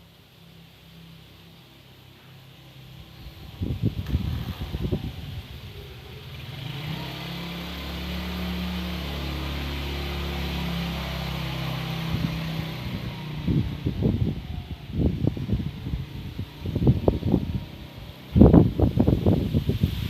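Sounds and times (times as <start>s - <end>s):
low drone with hiss: 0.0s - 20.0s
wind gusts: 2.5s - 20.0s.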